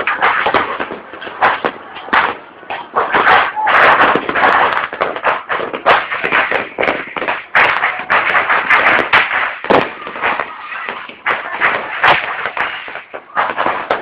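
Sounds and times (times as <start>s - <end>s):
firecrackers crackling and popping: 0.0s - 14.0s.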